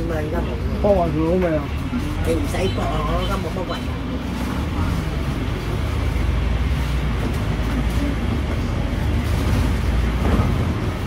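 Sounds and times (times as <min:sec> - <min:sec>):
bus engine and road hum: 0:00.0 - 0:11.0.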